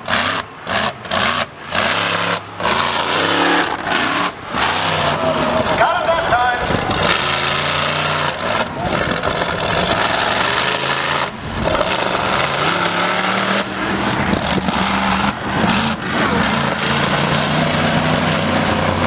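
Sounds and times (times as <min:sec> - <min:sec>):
engine running and revving: 0:00.0 - 0:19.0.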